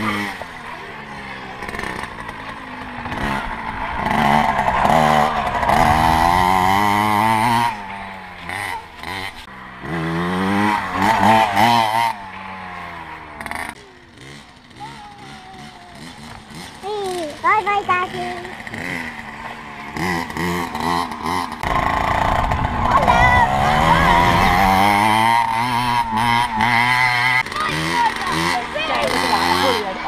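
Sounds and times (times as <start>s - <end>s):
mini motorbike revving: 0.0s - 30.0s.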